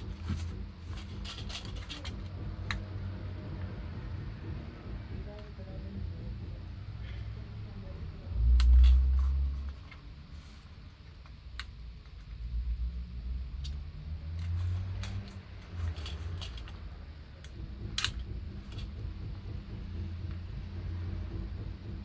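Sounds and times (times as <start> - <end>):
low rumbling handling noise: 0.0 - 22.0.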